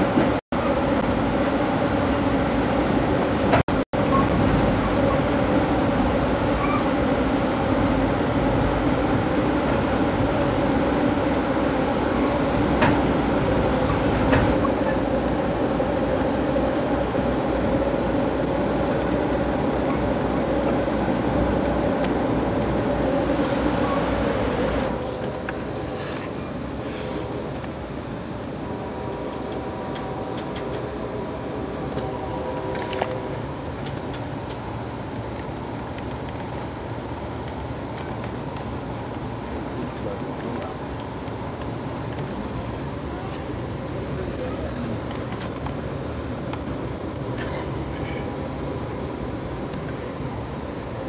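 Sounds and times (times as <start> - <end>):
low drone: 0.0 - 51.0
train running rumble: 0.0 - 51.0.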